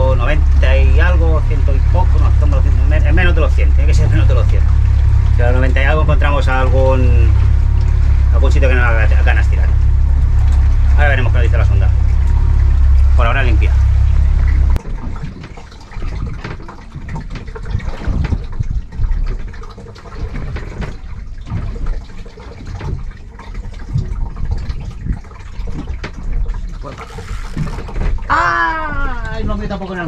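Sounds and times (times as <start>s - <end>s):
boat engine humming: 0.0s - 30.0s
low splashes: 0.0s - 30.0s
water sloshing and lapping: 0.0s - 30.0s.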